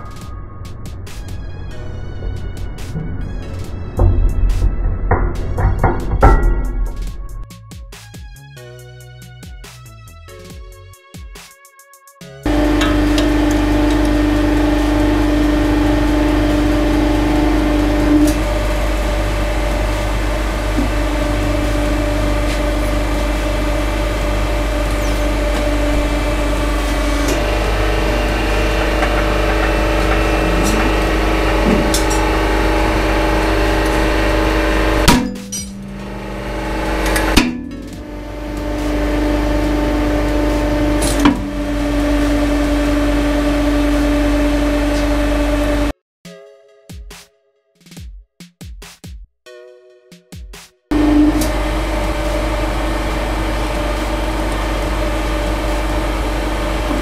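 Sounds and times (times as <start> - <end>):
hydraulic pump hum: 1.0 - 7.5, 12.4 - 45.9, 50.9 - 57.0.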